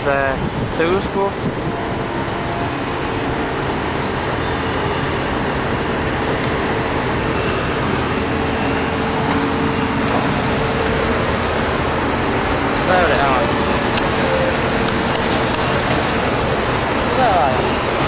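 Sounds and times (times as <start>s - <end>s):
building site machinery: 0.0s - 18.0s
city traffic: 0.0s - 18.0s
constant steady hum: 0.0s - 18.0s.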